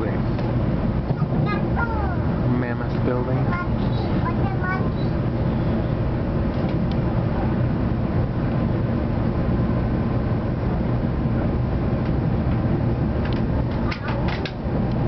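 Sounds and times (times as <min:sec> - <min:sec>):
train rumble and hiss inside car: 0:00.0 - 0:15.0.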